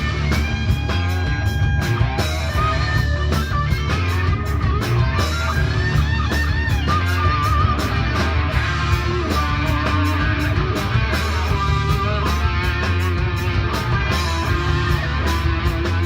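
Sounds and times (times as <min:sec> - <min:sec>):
drums beat: 0:00.0 - 0:16.0
electric guitar: 0:00.0 - 0:16.0
heavy bass line: 0:00.0 - 0:16.0.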